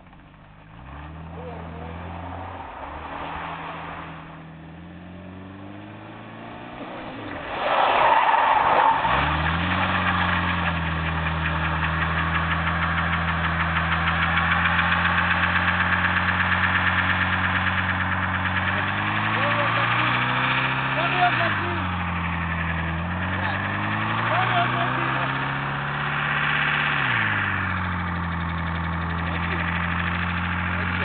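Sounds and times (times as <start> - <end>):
car engine revving: 0.0 - 31.0
tyres screeching in burnout: 1.1 - 31.0.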